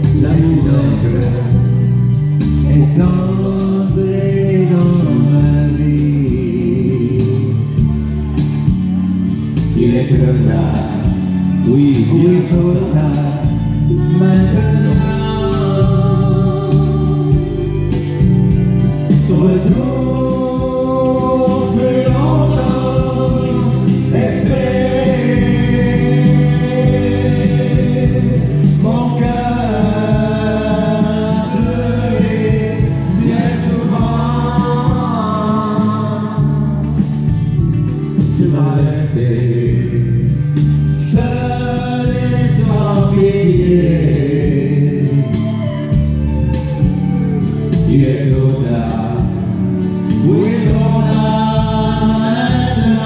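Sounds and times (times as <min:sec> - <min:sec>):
country song over loudspeakers: 0:00.0 - 0:53.0.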